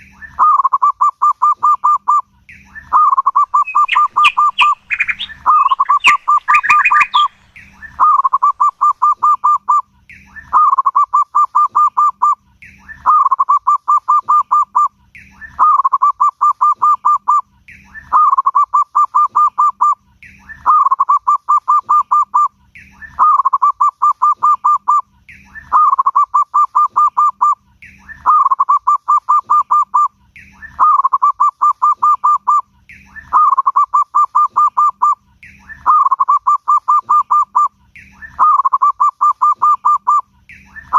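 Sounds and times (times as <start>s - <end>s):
dove cooing song: 0.1s - 40.9s.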